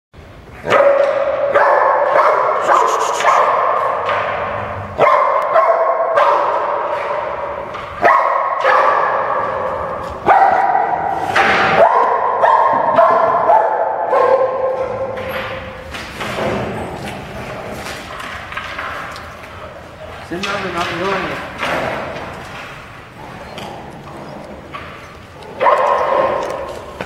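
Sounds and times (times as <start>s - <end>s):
dogs barking in echoing room: 0.2s - 27.0s.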